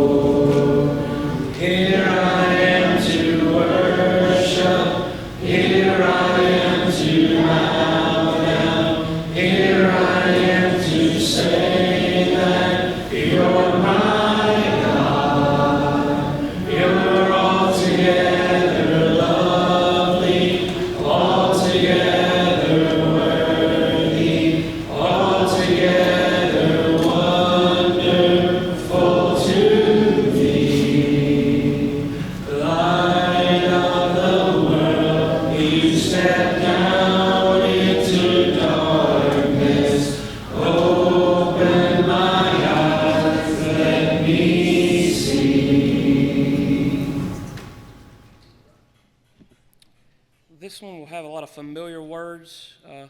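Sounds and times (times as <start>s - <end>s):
congregation singing a hymn: 0.0s - 48.4s.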